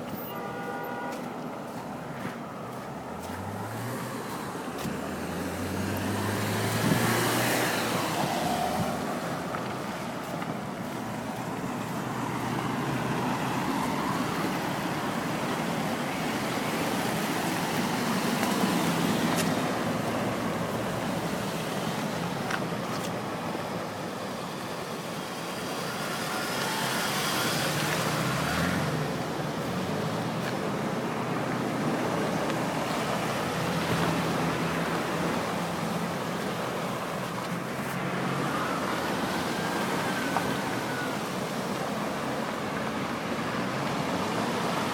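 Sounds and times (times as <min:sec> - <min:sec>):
vehicle engines: 0:00.0 - 0:44.9.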